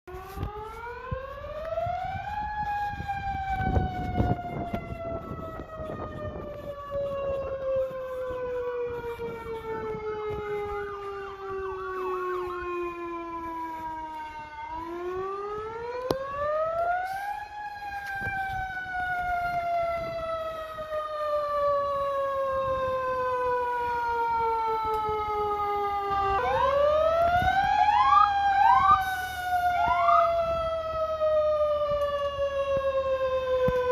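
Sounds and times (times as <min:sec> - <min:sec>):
fire truck siren wailing: 0:00.0 - 0:33.9.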